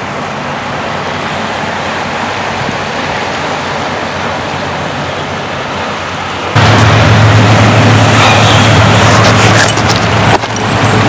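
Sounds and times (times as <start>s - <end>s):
surf washing on stony shore: 0.0s - 11.0s
wind rushing over microphone: 2.0s - 11.0s.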